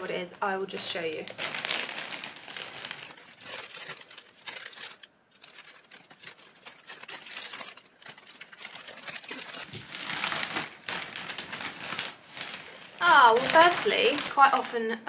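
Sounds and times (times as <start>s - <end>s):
paper packaging rustling: 0.0s - 14.8s.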